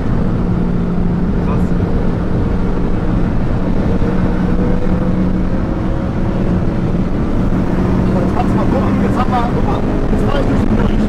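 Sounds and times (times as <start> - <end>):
car engine drone: 0.0 - 11.0
road noise: 0.0 - 11.0
wind noise: 0.0 - 11.0.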